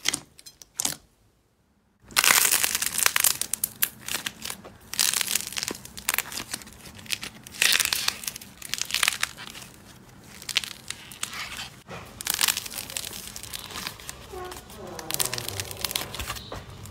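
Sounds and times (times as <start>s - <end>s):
slime crackling and popping: 2.0s - 16.9s.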